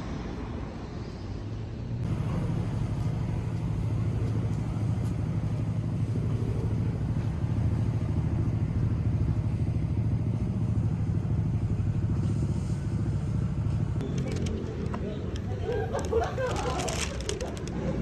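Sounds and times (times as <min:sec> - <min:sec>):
vehicle engine running: 0:02.0 - 0:18.0.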